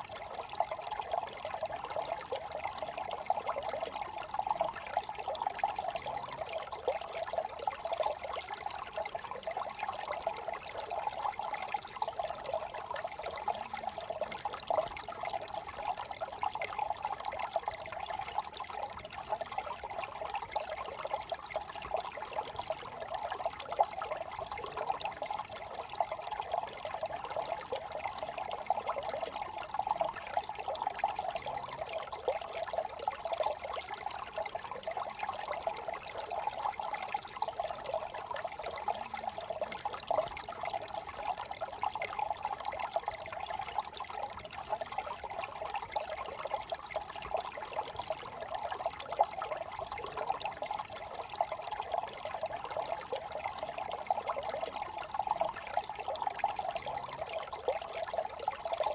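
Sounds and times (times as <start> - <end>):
brook babbling over stones: 0.0 - 58.9.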